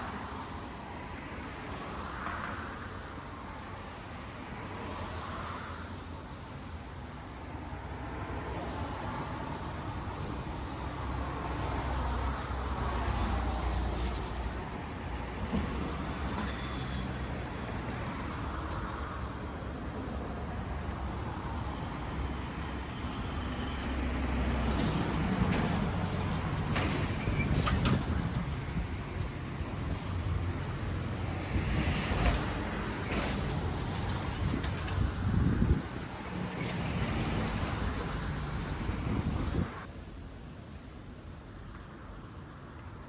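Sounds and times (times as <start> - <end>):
highway traffic passing: 0.0 - 43.0.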